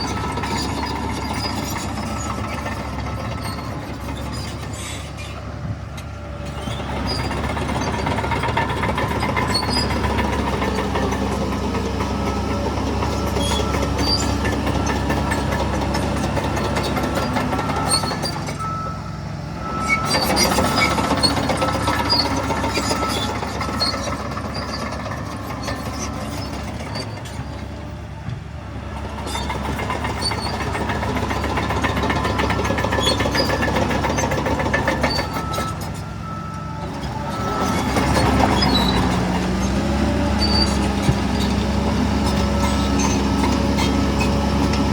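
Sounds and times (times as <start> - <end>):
diesel machinery engine: 0.0 - 44.9.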